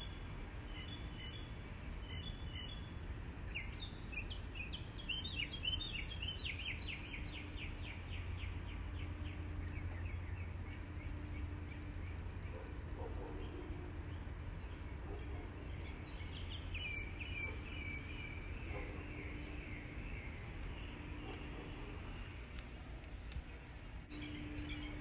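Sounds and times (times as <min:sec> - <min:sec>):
low outdoor rumble: 0:00.0 - 0:25.0
songbird singing: 0:00.0 - 0:25.0.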